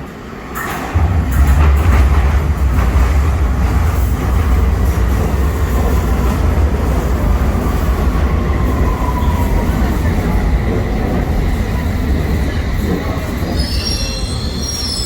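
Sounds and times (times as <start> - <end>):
underground train rumble: 0.0 - 15.0.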